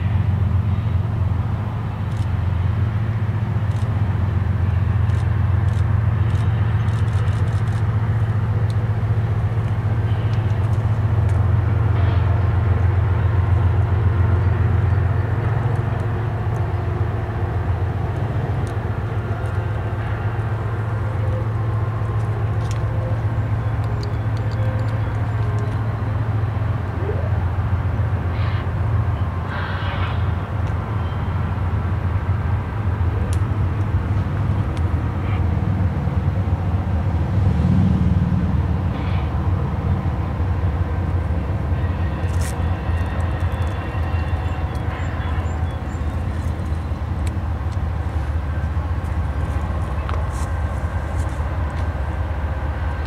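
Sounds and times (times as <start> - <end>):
diesel locomotives rumbling: 0.0 - 53.0
train rolling across bridge: 0.0 - 53.0.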